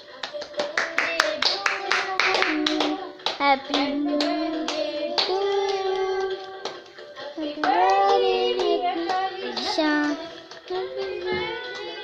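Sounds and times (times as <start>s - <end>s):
hands clapping: 0.0s - 11.1s
people singing birthday song: 0.0s - 12.0s.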